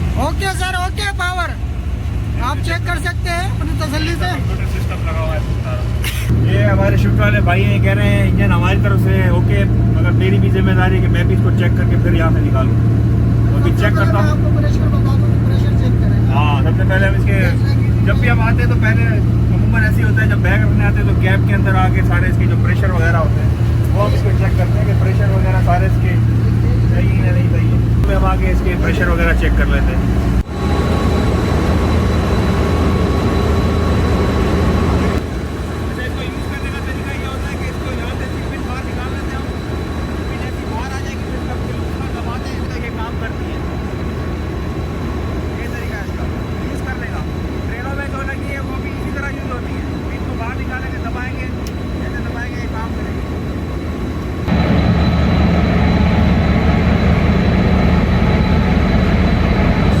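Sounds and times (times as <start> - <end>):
diesel locomotive engine rumbling: 0.0 - 60.0
thin high whine: 3.6 - 60.0.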